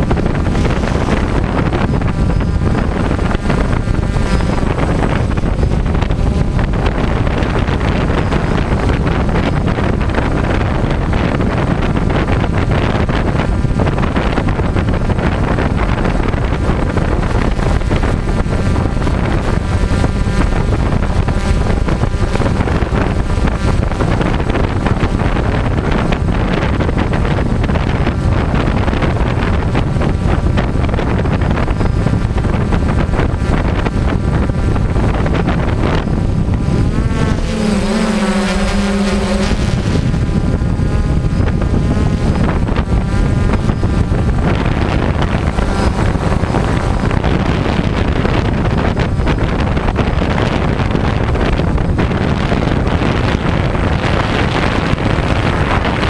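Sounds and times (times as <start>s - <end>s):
drone motors whirring: 0.0s - 12.0s, 12.6s - 49.8s
wind buffeting microphone: 0.0s - 56.0s.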